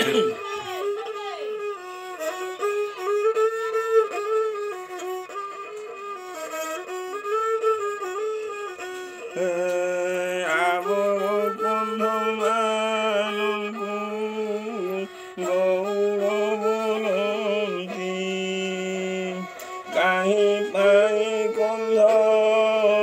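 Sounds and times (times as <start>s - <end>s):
bowed stick fiddle melody: 0.0s - 23.0s.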